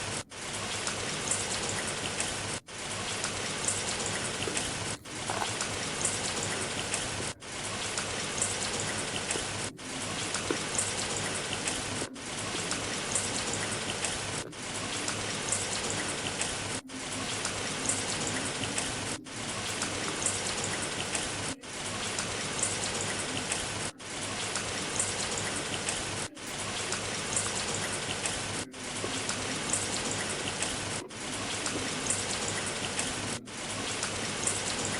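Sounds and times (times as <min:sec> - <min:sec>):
raindrop ticks: 0:00.0 - 0:34.9
steady rain falling: 0:00.0 - 0:34.9.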